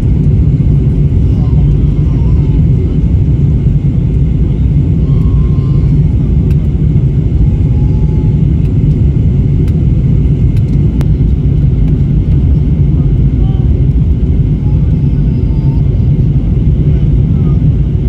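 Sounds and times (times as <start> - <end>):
airliner cabin jet engine rumble: 0.0 - 18.0.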